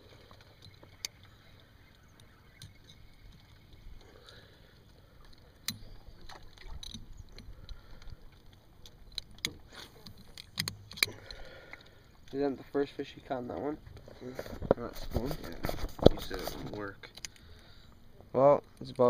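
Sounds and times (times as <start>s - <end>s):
faint handling noise: 0.1s - 19.0s.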